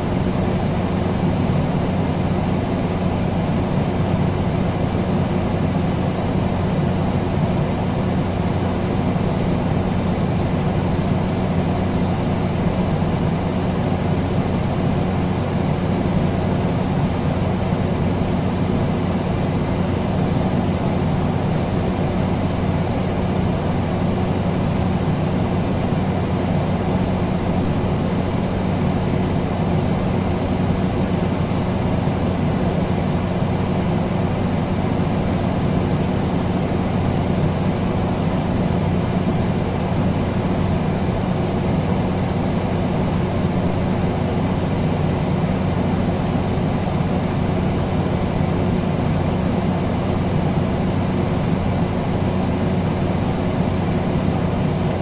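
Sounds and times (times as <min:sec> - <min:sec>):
air conditioner running: 0:00.0 - 0:55.0.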